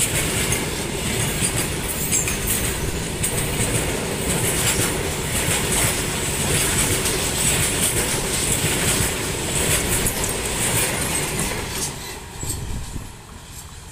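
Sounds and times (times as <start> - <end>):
freight train rumble: 0.0 - 13.9
wheels clattering on rails: 0.0 - 13.9.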